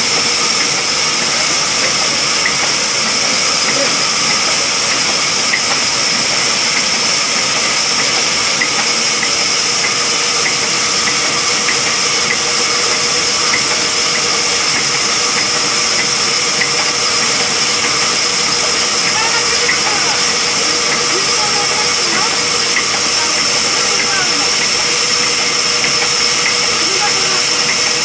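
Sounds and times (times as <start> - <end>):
band saw cutting wood: 0.0 - 28.0.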